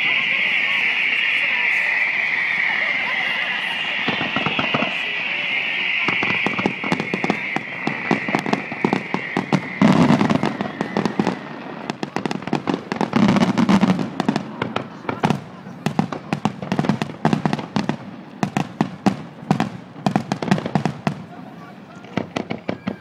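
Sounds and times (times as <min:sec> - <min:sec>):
firework whistling hiss: 0:00.0 - 0:21.0
fireworks crackling and snapping: 0:00.0 - 0:21.3, 0:22.0 - 0:23.0.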